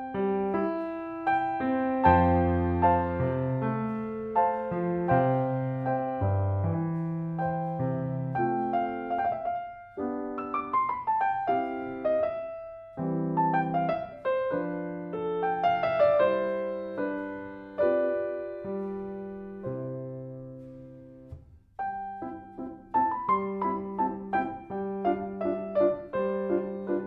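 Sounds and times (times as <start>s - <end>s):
gentle piano music: 0.0s - 27.0s.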